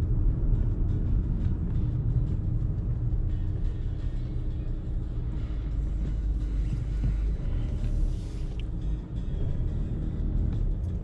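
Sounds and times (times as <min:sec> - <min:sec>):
background music: 0:00.0 - 0:11.0
car rumbling in traffic: 0:00.0 - 0:11.0.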